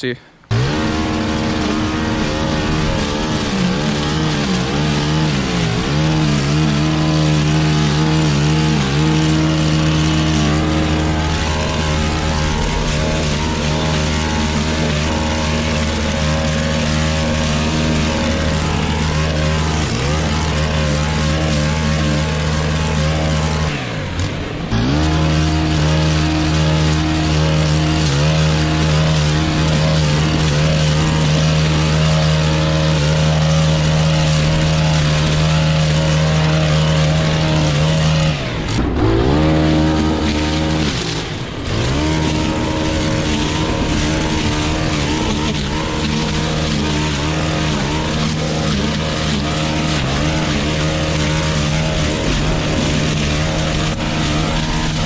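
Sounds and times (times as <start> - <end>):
brush cutter engine revving: 0.0 - 55.0
trimmer line cutting grass: 0.0 - 55.0.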